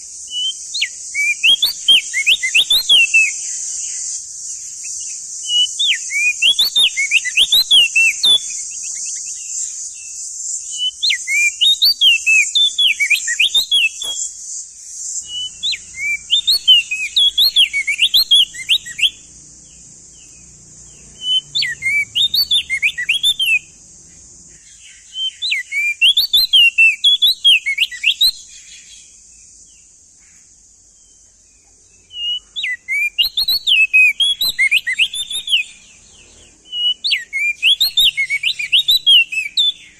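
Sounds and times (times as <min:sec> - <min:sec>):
bird whistling song: 0:00.0 - 0:31.2, 0:31.9 - 0:39.9
steady high hiss: 0:00.0 - 0:39.9.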